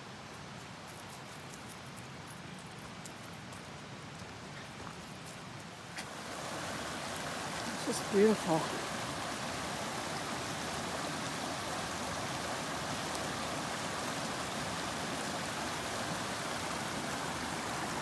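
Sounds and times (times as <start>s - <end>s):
stream running over stones: 0.0s - 18.0s.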